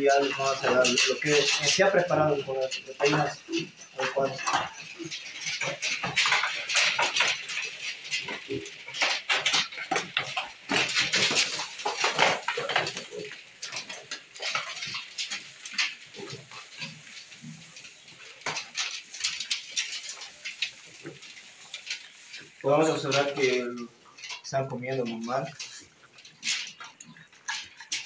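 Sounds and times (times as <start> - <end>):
pigs crunching feed: 0.0 - 28.0
pigs snuffling: 0.0 - 28.0
snouts clattering against feeder: 0.0 - 28.0.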